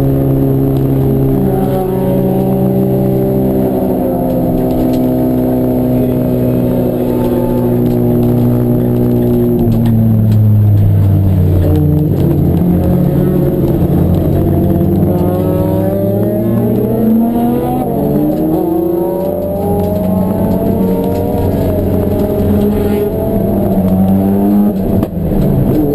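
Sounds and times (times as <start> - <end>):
race car engine running: 0.0 - 25.9.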